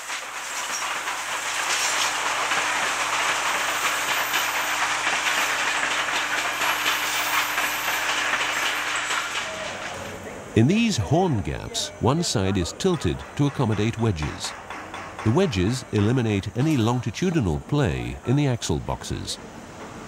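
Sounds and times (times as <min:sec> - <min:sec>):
train wheels clattering on track: 0:00.0 - 0:10.3, 0:12.4 - 0:18.1, 0:19.6 - 0:20.0
steam hissing: 0:00.0 - 0:20.0.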